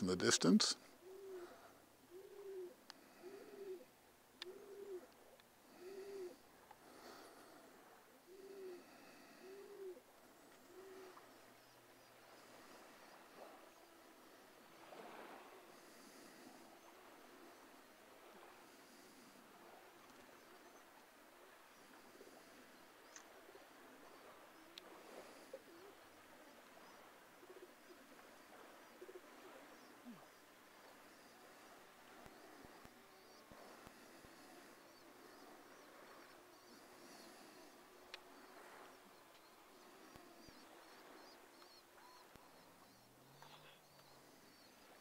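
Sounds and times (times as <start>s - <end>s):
bird cooing: 1.0s - 7.5s, 8.2s - 45.0s.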